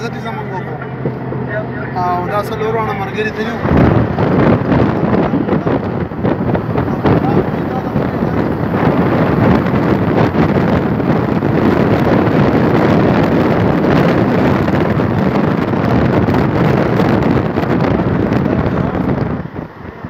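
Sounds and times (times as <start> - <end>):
car cabin road noise: 0.0 - 20.0
wind buffeting microphone: 0.0 - 20.0.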